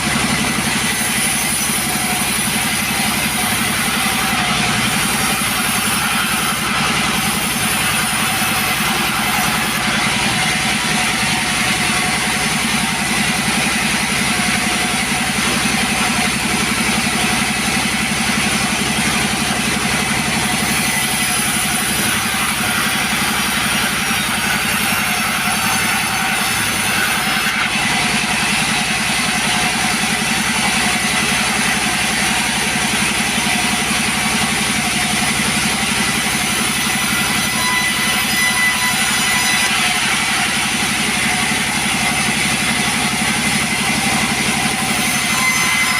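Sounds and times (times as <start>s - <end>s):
chainsaw engine running: 0.0s - 37.9s, 39.8s - 45.3s.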